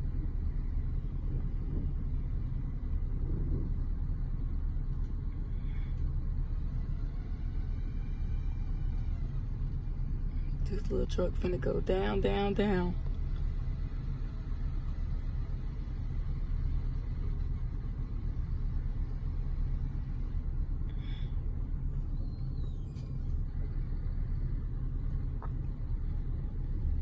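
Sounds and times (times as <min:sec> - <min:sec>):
muffled engine idling: 0:00.0 - 0:27.0.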